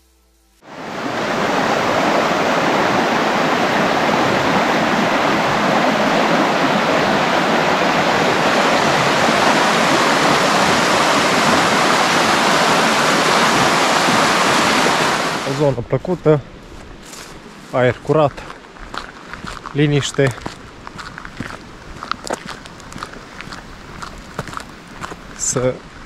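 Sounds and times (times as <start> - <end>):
rushing of running water: 0.7 - 15.8, 17.7 - 26.0.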